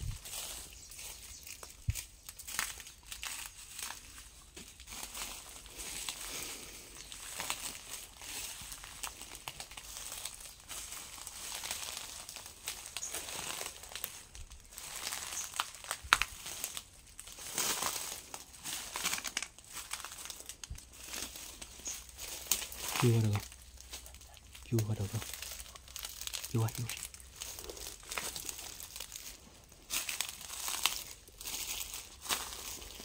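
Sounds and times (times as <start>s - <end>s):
crinkling and rustling: 0.0s - 33.0s.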